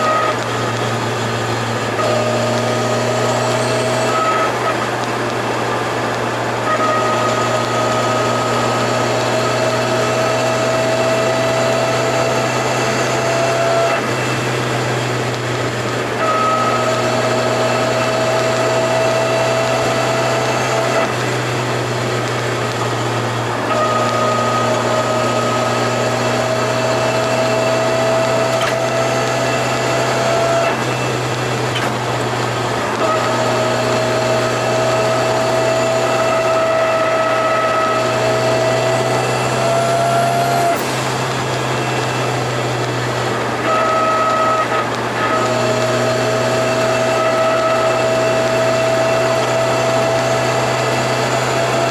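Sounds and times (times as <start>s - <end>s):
car engine drone: 0.0s - 51.9s
turbo whine rising: 0.0s - 51.9s.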